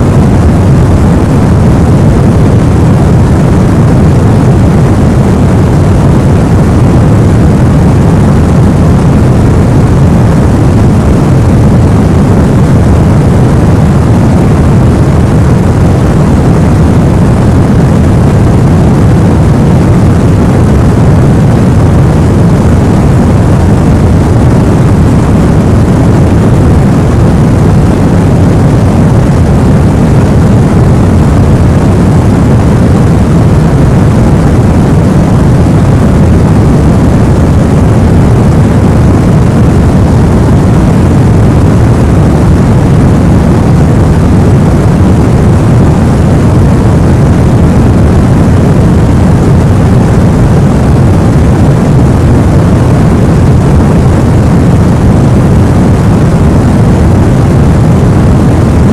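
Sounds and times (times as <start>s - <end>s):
loud white noise: 0.0s - 58.9s.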